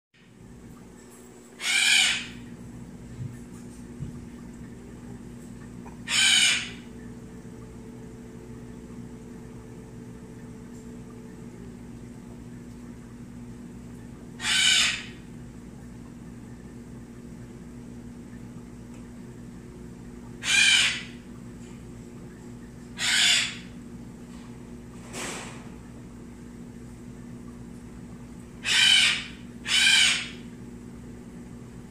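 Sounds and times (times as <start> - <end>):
aquarium pumps humming: 0.2 - 31.9.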